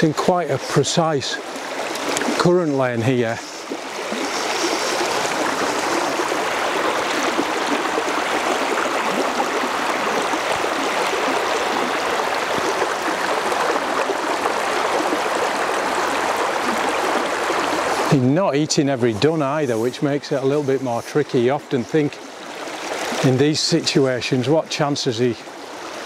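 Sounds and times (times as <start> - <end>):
river water rushing over stream bed: 0.0 - 26.0.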